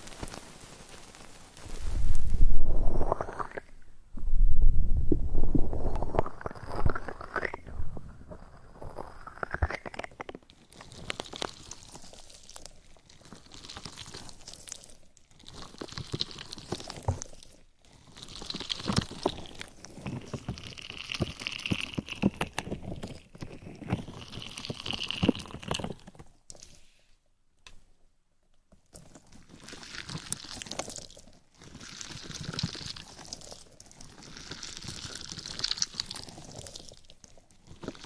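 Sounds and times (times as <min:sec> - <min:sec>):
crackling and crunching on microphone: 0:00.0 - 0:26.9, 0:28.5 - 0:38.0.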